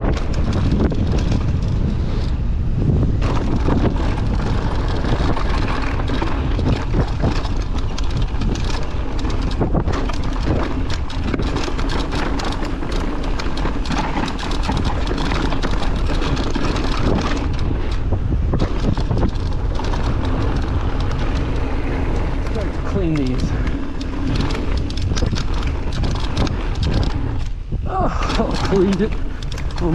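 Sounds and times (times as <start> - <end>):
bike rattling and clicking: 0.0 - 29.9
wind buffeting microphone: 0.0 - 29.9.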